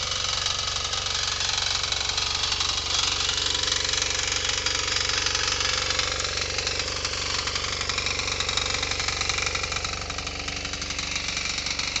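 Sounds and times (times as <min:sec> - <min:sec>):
power tiller engine running: 0:00.0 - 0:12.0.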